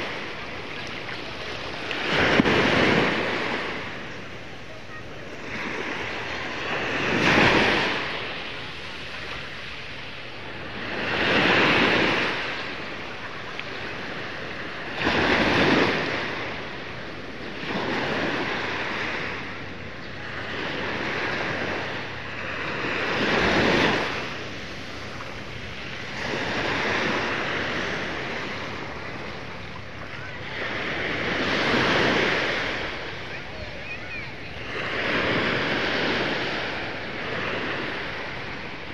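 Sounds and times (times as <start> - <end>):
small waves breaking on shore: 0.0 - 38.9.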